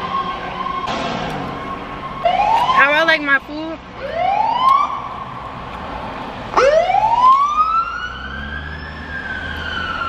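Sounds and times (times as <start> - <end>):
emergency siren wailing: 0.0 - 3.2, 4.0 - 5.5, 6.5 - 10.0.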